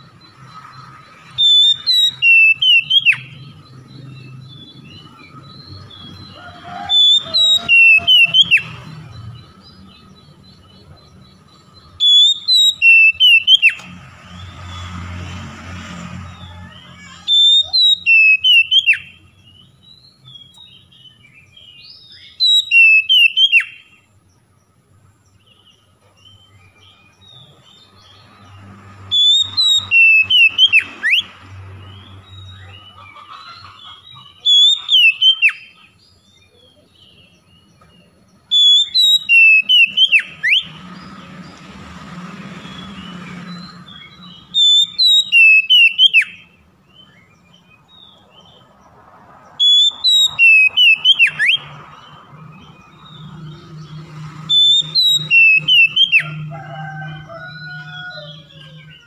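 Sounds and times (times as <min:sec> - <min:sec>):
bird singing whistled notes: 0:00.0 - 0:14.9, 0:16.3 - 0:24.3, 0:25.2 - 0:33.0, 0:33.9 - 0:41.2, 0:42.6 - 0:48.6, 0:49.5 - 0:59.0.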